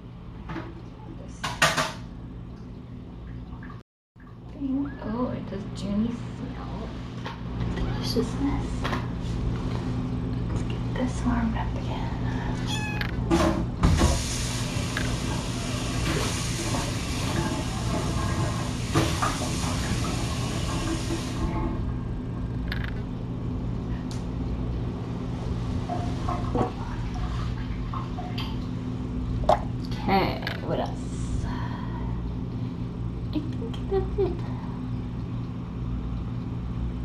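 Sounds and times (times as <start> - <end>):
water running: 0.4 - 37.0.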